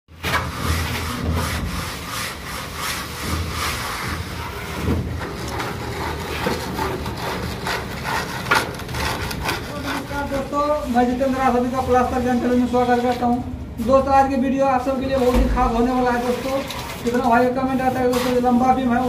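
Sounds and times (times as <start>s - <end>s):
straight edge scraping wet plaster: 0.1s - 13.2s, 14.9s - 19.0s.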